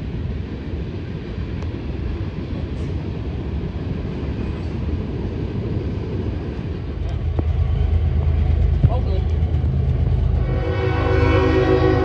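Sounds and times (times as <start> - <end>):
diesel freight train rumbling: 0.0 - 12.0.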